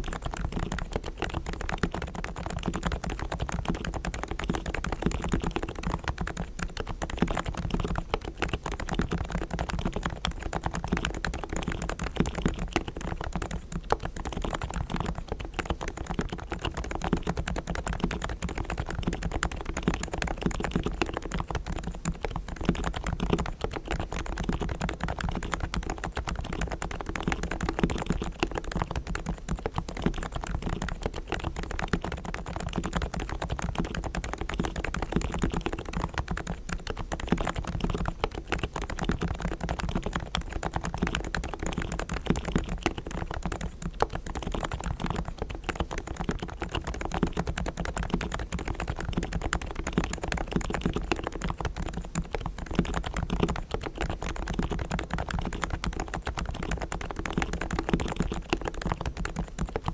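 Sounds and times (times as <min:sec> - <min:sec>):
rapid soft keyboard typing: 0:00.0 - 0:59.9.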